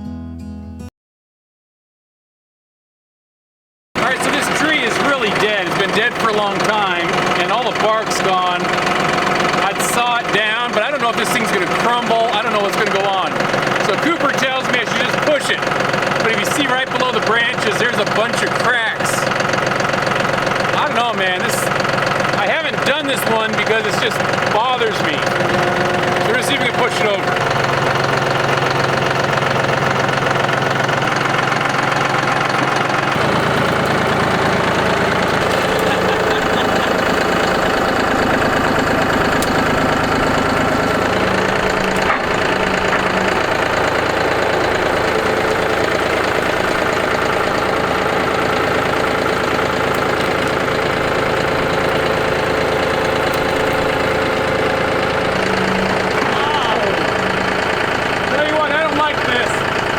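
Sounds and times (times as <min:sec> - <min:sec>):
tractor engine running: 0:04.0 - 0:59.9.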